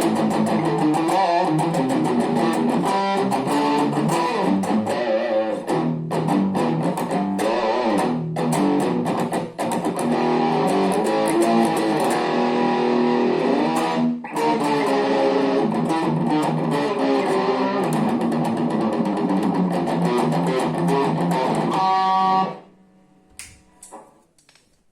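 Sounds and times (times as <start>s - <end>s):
electric guitar notes and chords: 0.0s - 24.2s.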